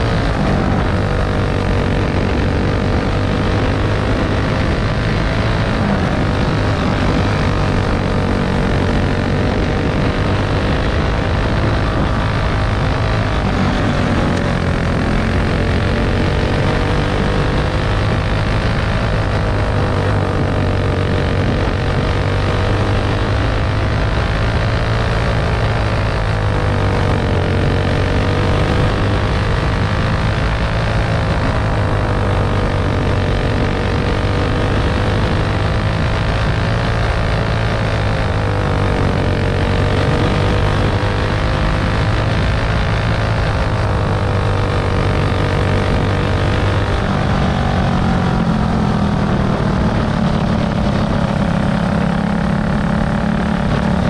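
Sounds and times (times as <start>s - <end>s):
racing engine running: 0.0s - 54.0s.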